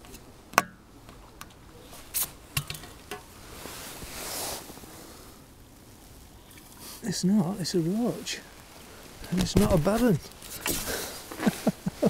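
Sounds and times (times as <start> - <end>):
soft rush of noise: 0.0 - 12.0.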